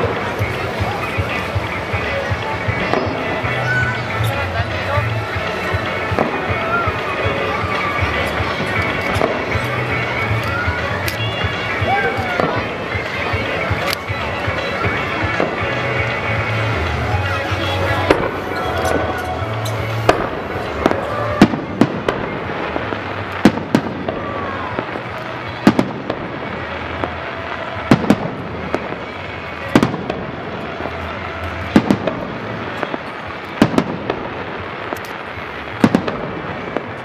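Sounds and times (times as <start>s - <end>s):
continuous background noise: 0.0s - 37.0s
firework shells bursting: 5.4s - 37.0s.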